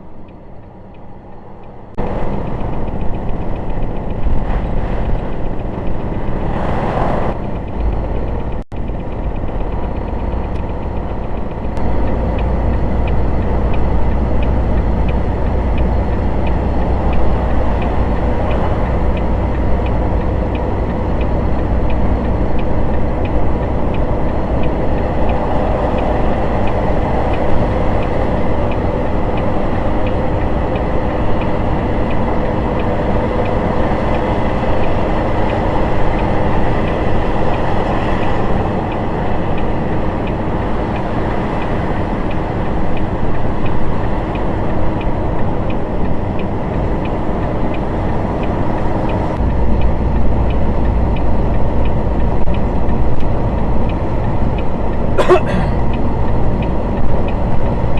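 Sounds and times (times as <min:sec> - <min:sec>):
faint regular ticking: 0:00.0 - 0:06.5, 0:07.3 - 0:57.9
vehicle engine and road noise: 0:00.0 - 0:57.9.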